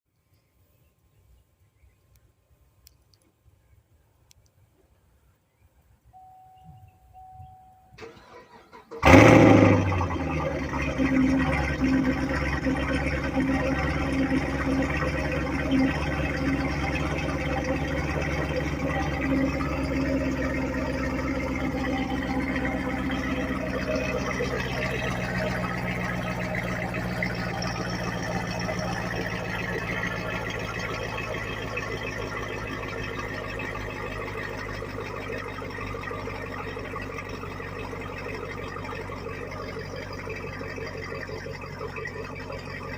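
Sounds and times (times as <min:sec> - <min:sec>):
car engine idling: 0:04.3 - 0:42.9.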